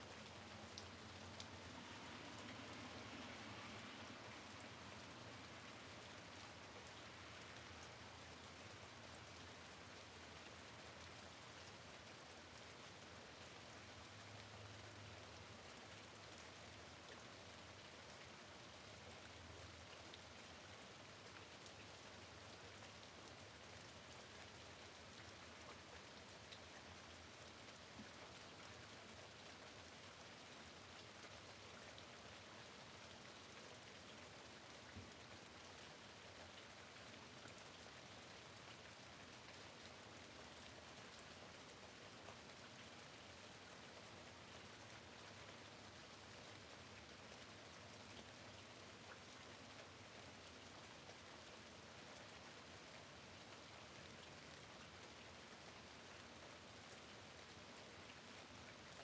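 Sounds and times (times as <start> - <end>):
rain hiss at a window: 0.0 - 59.0.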